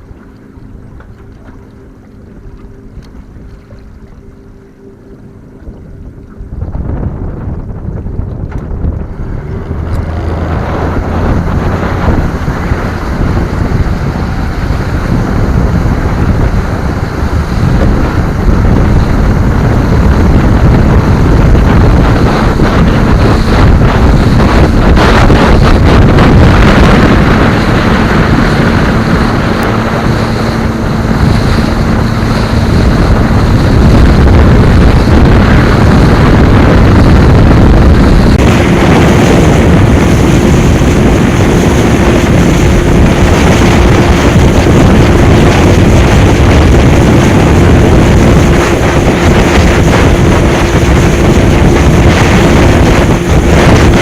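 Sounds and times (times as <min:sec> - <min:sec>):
motor hum: 0:00.0 - 0:54.0
water noise: 0:00.0 - 0:54.0
wind buffeting microphone: 0:00.0 - 0:54.0.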